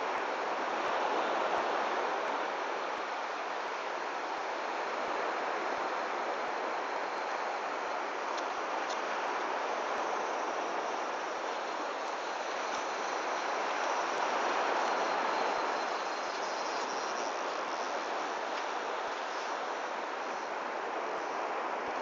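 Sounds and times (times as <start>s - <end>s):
sea surf: 0.0s - 22.0s
wind: 0.0s - 22.0s.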